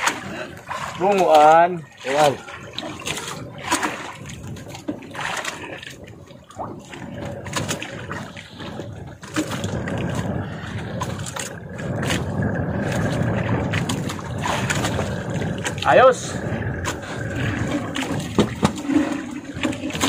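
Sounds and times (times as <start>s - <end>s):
sea water rushing: 0.0s - 20.0s
wind: 0.0s - 20.0s.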